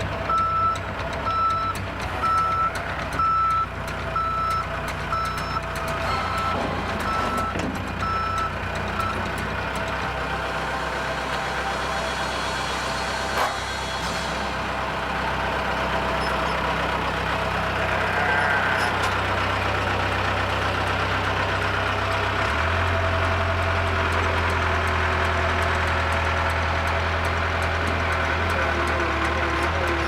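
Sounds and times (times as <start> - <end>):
construction machine engine running: 0.0 - 30.0.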